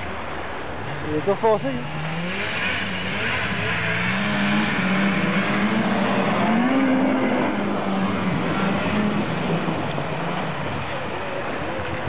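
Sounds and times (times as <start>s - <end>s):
snowmobile engine running: 1.1s - 12.0s.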